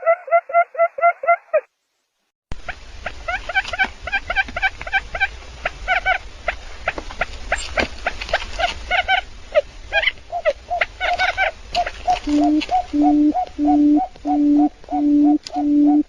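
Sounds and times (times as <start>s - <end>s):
quail chirping calls: 3.0s - 16.0s.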